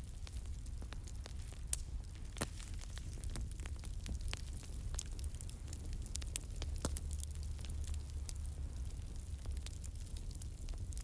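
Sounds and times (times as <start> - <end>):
low rumble of flames: 0.0 - 11.0
wood crackling and popping: 0.0 - 11.0.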